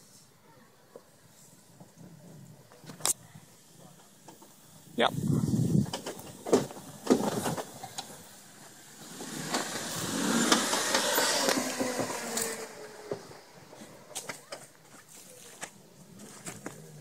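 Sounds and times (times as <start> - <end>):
engine working under load: 1.7 - 17.0.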